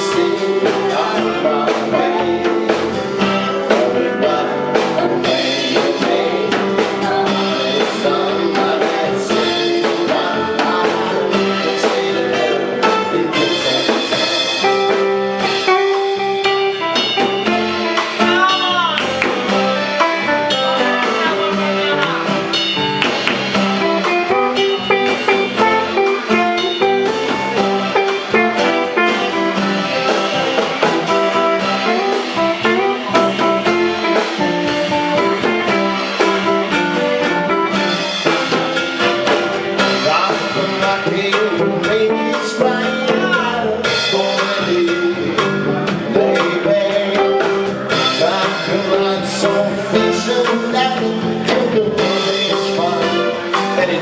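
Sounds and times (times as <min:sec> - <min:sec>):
drum kit: 0:00.0 - 0:54.0
electric guitar: 0:00.0 - 0:54.0
live band dance music: 0:00.0 - 0:54.0.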